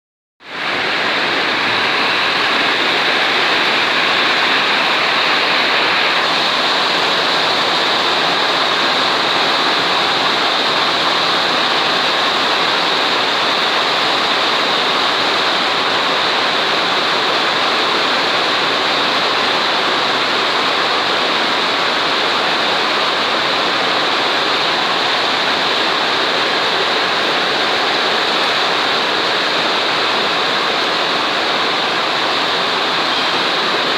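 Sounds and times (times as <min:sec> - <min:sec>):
heavy rain pouring: 0:00.4 - 0:33.9.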